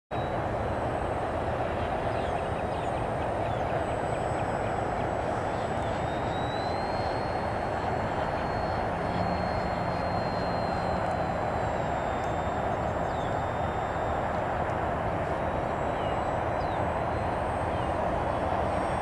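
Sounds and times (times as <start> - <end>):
high electric motor whine: 0.1 - 19.0
model plane propeller drone: 0.1 - 19.0.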